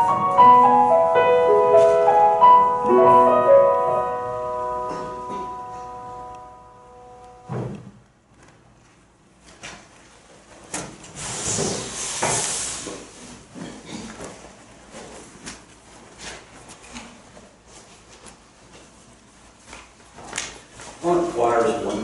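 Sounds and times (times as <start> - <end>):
people rustling and clattering: 0.0 - 3.7, 7.3 - 22.0.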